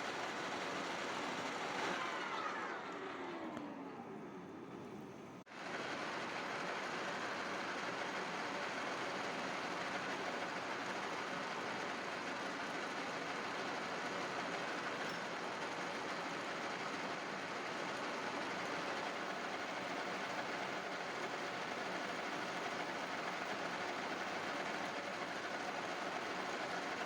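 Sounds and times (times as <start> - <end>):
metal lathe running: 0.0 - 3.6, 5.6 - 27.0.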